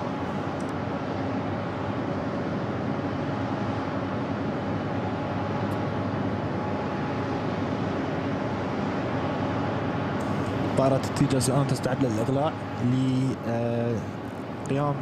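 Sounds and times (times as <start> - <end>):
jet engine rushing and whining: 0.0 - 15.0.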